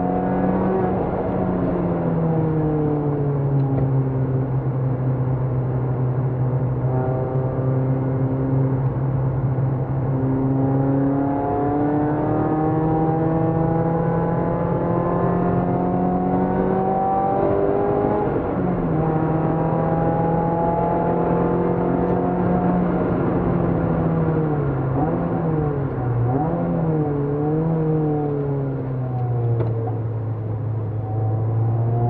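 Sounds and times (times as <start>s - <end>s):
car engine pulling under throttle: 0.0s - 32.0s
road noise: 0.0s - 32.0s.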